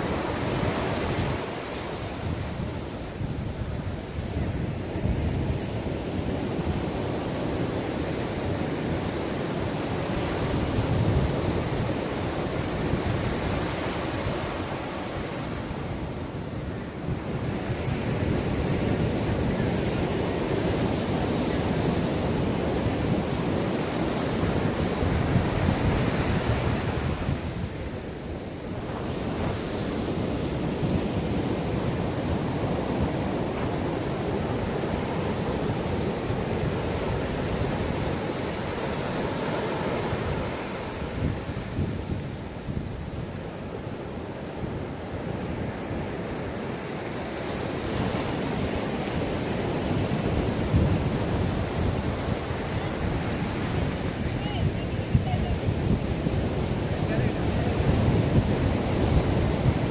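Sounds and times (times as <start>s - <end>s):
sea waves washing onto shore: 0.0s - 59.9s
wind buffeting microphone: 0.0s - 59.9s.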